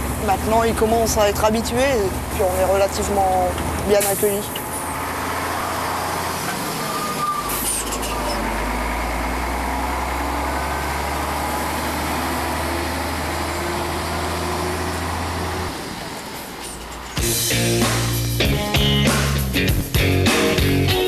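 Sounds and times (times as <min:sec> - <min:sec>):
diesel truck engine running: 0:00.0 - 0:20.9.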